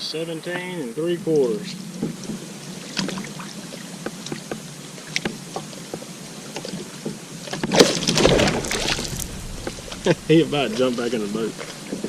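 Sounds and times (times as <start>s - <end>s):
fish splashing and thrashing: 1.6s - 12.0s.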